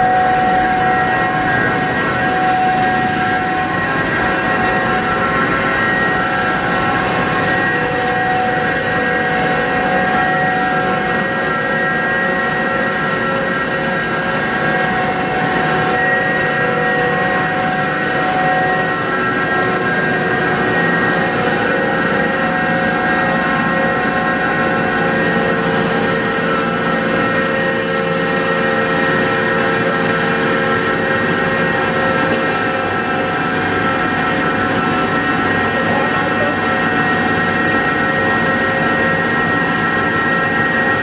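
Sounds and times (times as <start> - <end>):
constant machine whining tones: 0.0 - 41.0
loud even machine noise: 0.0 - 41.0.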